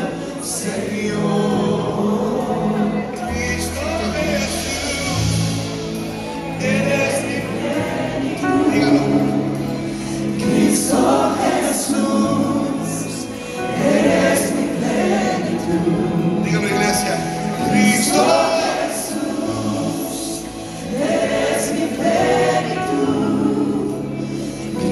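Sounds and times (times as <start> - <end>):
keyboard chords: 0.0 - 24.9
worship team singing: 0.0 - 24.9.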